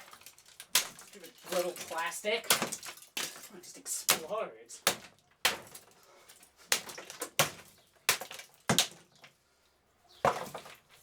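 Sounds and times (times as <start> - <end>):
plastic casing cracking under blows: 0.0 - 9.4.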